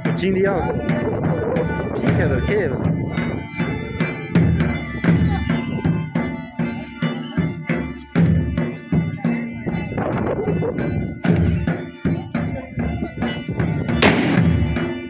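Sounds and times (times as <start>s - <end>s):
drum beating steady rhythm: 0.0s - 15.0s
wind instrument melody: 0.0s - 15.0s.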